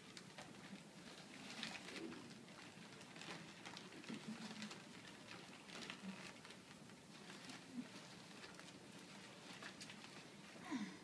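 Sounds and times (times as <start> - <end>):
paper crinkling and rustling: 0.0 - 10.8.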